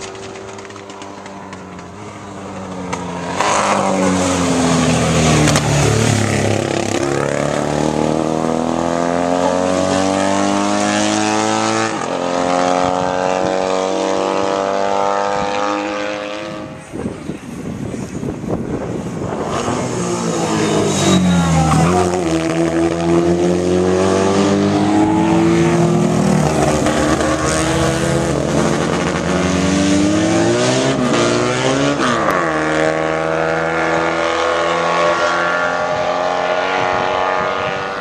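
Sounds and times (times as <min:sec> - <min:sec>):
racing engines at full throttle: 0:00.0 - 0:38.0.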